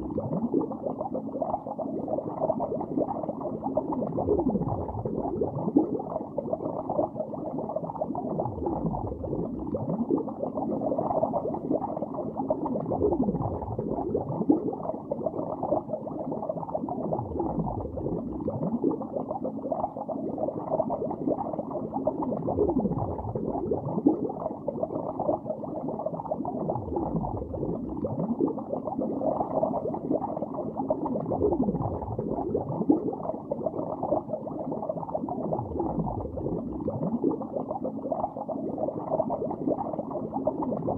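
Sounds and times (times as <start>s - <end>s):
underwater bubbling: 0.0s - 40.9s.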